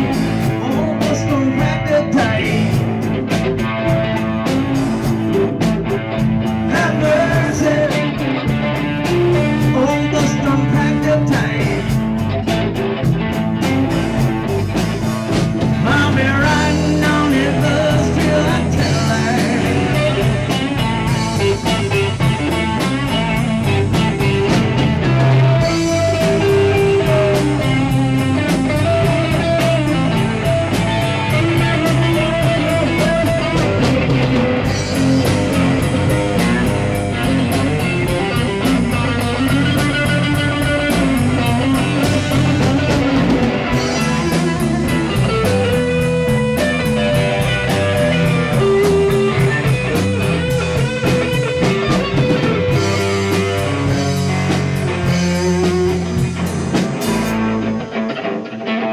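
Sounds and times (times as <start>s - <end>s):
live rock band playing: 0.0s - 58.9s.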